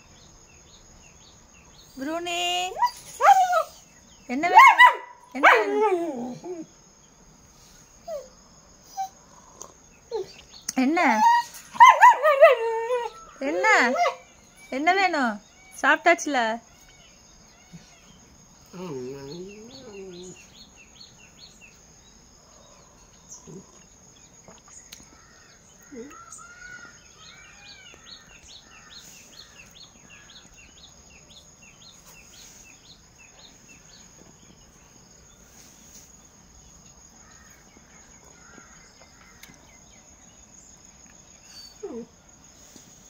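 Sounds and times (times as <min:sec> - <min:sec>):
high insect drone: 0:00.0 - 0:43.0.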